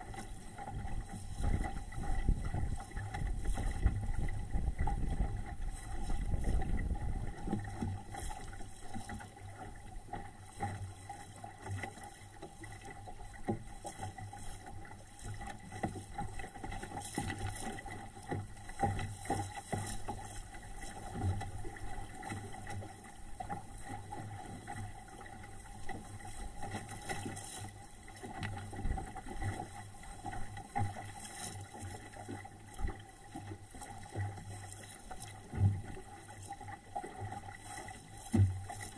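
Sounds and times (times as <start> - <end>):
water rushing along hull: 0.0 - 38.9.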